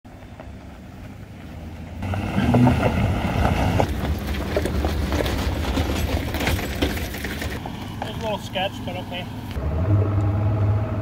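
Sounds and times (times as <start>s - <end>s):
tires crunching on gravel: 0.1s - 9.6s
truck engine rumble: 0.1s - 11.0s.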